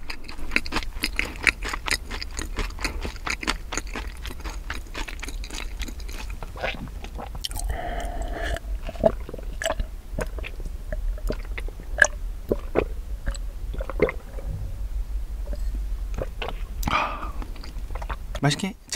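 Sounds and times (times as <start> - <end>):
chewing bread: 0.0 - 14.4, 15.5 - 18.4
swallowing milk: 0.0 - 14.6, 15.5 - 18.3.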